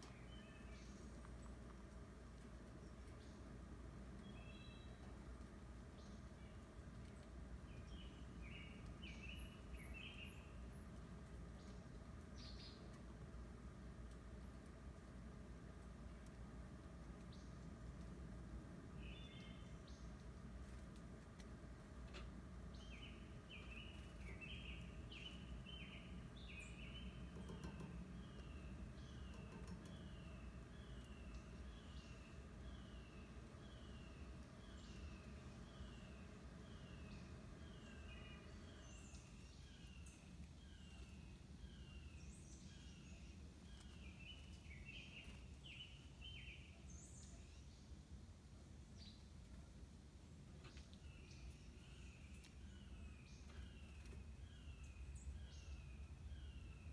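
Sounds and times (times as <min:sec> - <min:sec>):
bird chirping: 0:00.0 - 0:01.7, 0:02.4 - 0:13.3, 0:18.9 - 0:20.4, 0:22.1 - 0:48.1, 0:50.4 - 0:56.9
low background hum: 0:00.0 - 0:56.9
low background rumble: 0:00.0 - 0:56.9.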